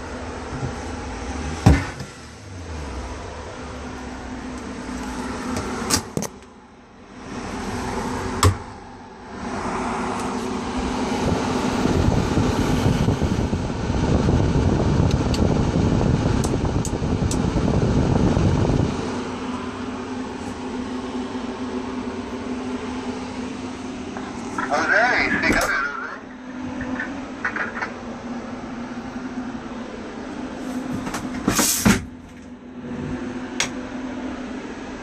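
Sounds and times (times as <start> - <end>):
fan motor humming: 0.0 - 35.0.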